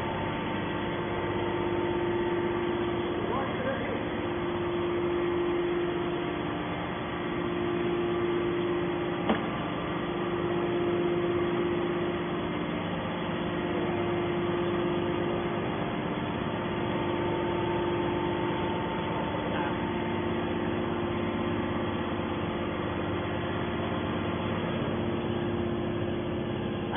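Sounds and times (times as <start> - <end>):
hydraulic pump motor humming: 0.0 - 26.9.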